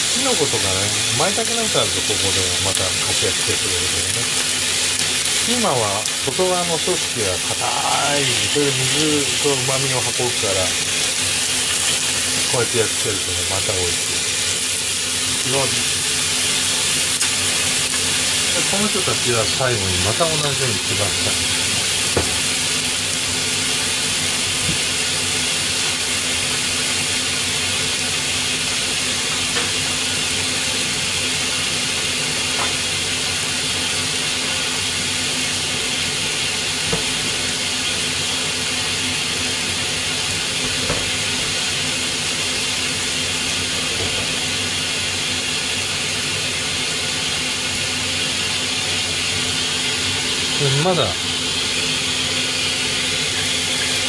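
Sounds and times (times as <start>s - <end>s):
stir-fry sizzling in a wok: 0.0s - 54.0s.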